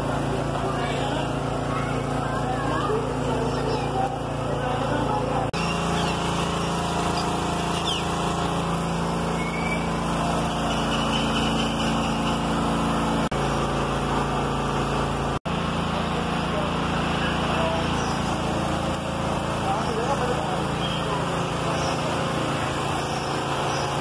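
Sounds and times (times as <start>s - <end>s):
small engine droning: 0.0s - 24.0s.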